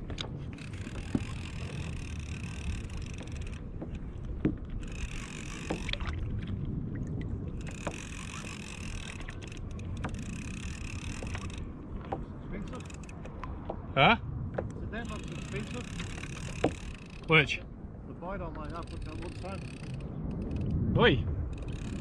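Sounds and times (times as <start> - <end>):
wind and water rumble: 0.0 - 22.0
fishing reel whirring: 0.1 - 6.3, 7.5 - 13.5, 14.9 - 17.6, 18.5 - 20.8, 21.5 - 22.0.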